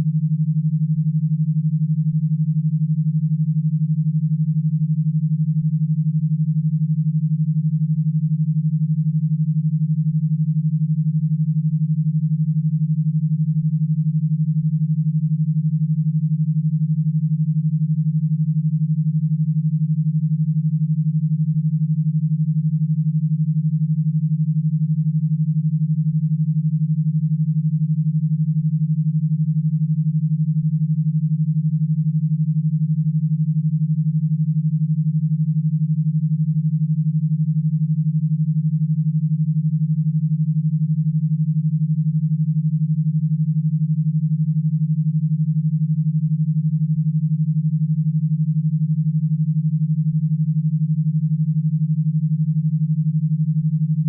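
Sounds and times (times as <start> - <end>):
low pulsing hum-like tone: 0.0 - 54.0.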